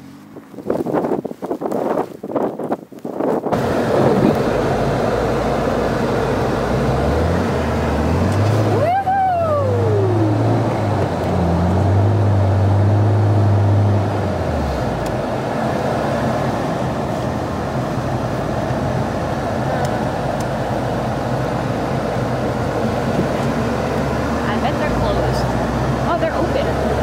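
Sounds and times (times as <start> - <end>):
continuous rushing noise: 0.0 - 27.0
car engine low drone: 3.5 - 27.0.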